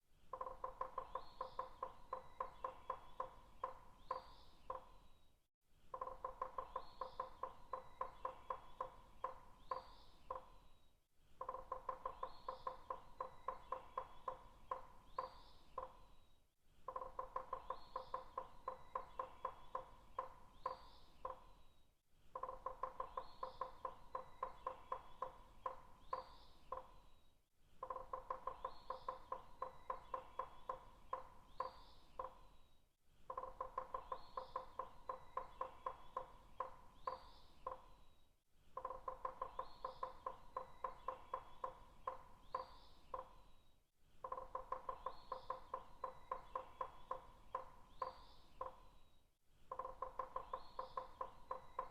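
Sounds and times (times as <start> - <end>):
woodpecker tapping on wood: 0.3 - 5.0, 5.9 - 10.6, 11.4 - 16.1, 16.9 - 21.6, 22.3 - 27.0, 27.8 - 32.5, 33.3 - 38.0, 38.8 - 43.5, 44.2 - 49.0, 49.7 - 51.9
faint high bird chirps: 0.3 - 51.9.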